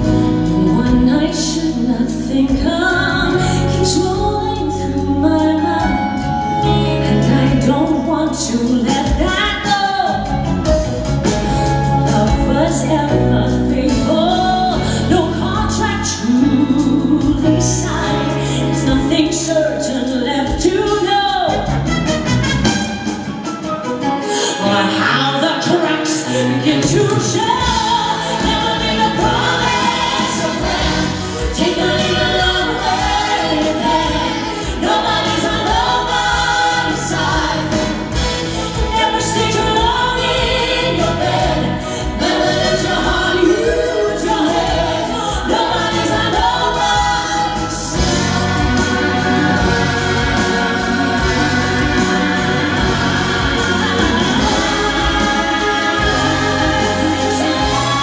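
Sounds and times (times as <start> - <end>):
live band with drums: 0.0 - 58.0.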